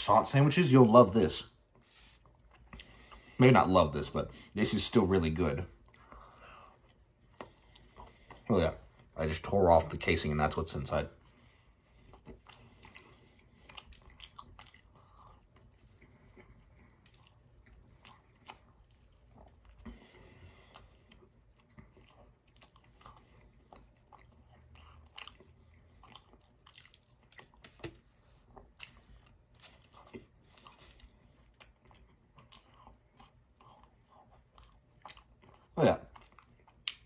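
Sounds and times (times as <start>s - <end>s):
chewing and biting food: 1.5s - 3.4s, 5.6s - 10.0s, 11.2s - 37.0s.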